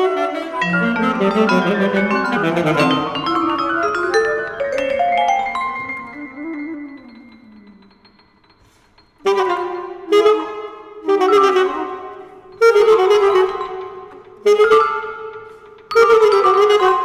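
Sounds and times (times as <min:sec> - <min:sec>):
saxophone notes: 0:00.0 - 0:08.0, 0:08.6 - 0:17.0.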